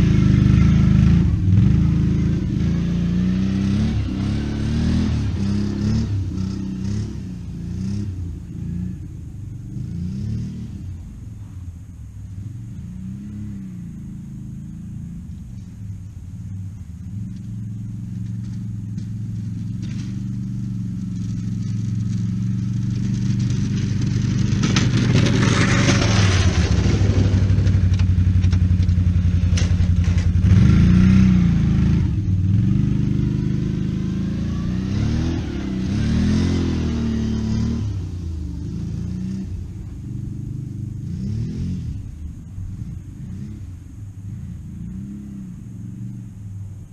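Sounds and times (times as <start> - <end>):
engine revving: 0.0 - 11.6, 12.2 - 46.5.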